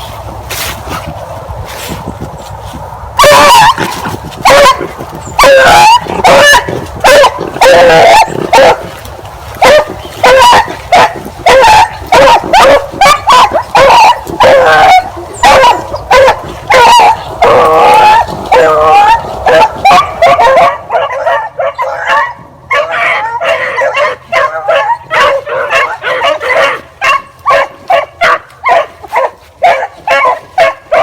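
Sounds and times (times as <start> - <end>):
hounds baying: 3.2 - 31.0.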